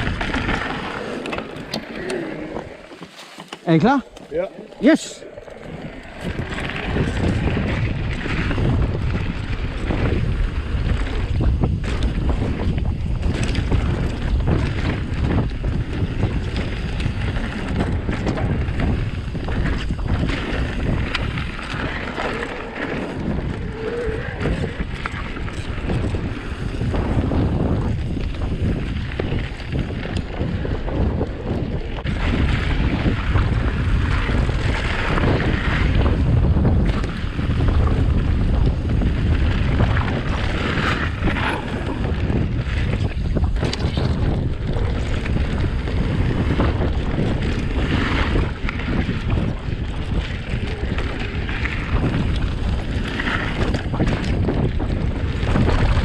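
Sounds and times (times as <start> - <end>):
bike tyres rattling on trail: 0.0 - 56.0
wind buffeting microphone: 0.0 - 56.0.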